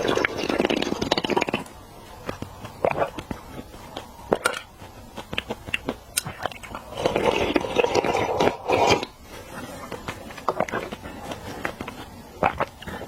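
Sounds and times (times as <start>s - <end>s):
chewing and crunching seafood: 0.0s - 13.0s.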